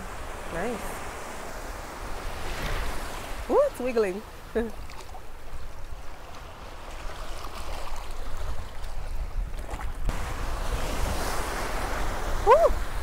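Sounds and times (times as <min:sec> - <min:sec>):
surf washing over rocks: 0:00.0 - 0:13.0
wind rumbling on microphone: 0:00.0 - 0:13.0.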